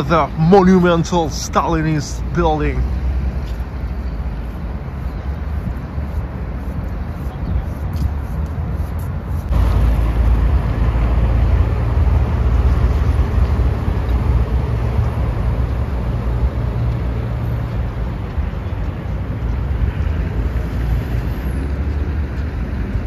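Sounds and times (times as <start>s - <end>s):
passing vehicles with low rumble: 0.0s - 23.0s.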